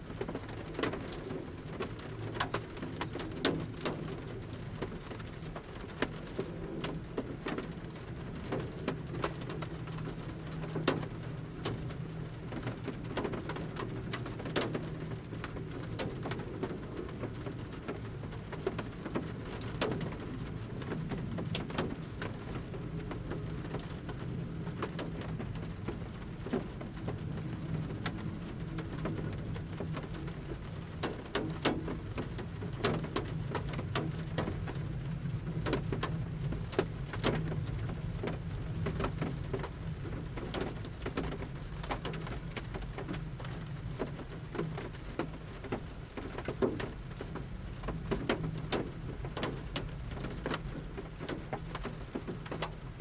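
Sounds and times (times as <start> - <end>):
low steady rumble: 0.0 - 53.0
raindrops pattering on van roof: 0.0 - 53.0.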